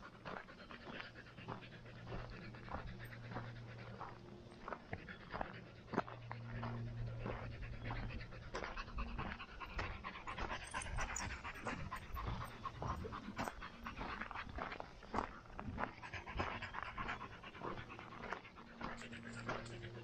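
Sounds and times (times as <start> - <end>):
heavy panting breaths: 0.0 - 20.0.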